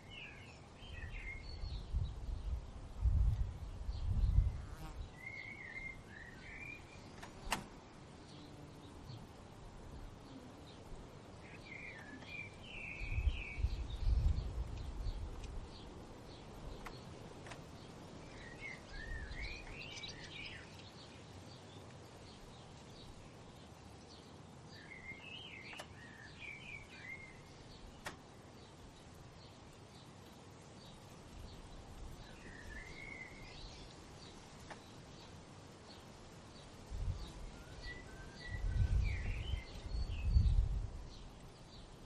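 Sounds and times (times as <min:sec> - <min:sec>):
outdoor hiss: 0:00.0 - 0:42.0
songbirds warbling: 0:03.7 - 0:42.0.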